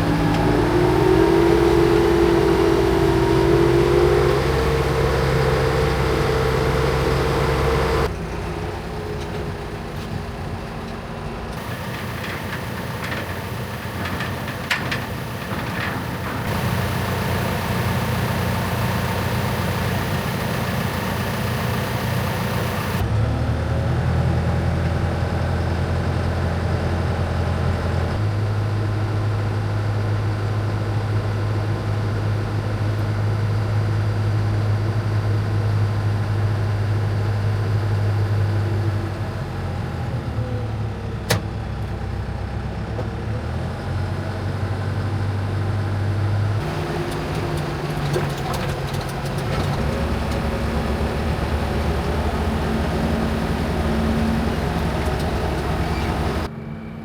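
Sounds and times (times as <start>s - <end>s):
heavy engines running: 0.0s - 57.0s.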